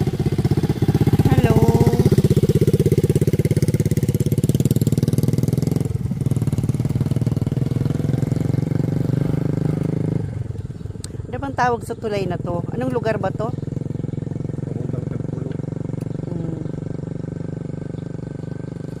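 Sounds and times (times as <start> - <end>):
motorcycle engine idling: 0.0 - 19.0
motorcycle riding past: 0.0 - 19.0.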